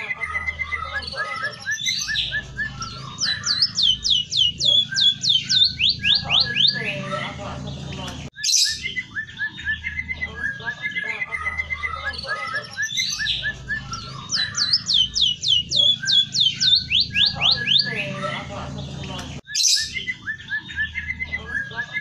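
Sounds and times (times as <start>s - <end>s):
bird chirping and trilling: 0.0s - 22.0s.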